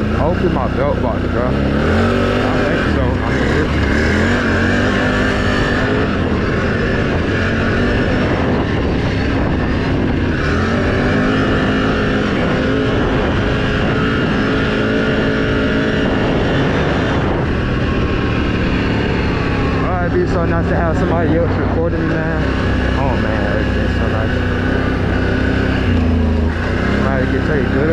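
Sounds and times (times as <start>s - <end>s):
atv engine running: 0.0s - 27.9s.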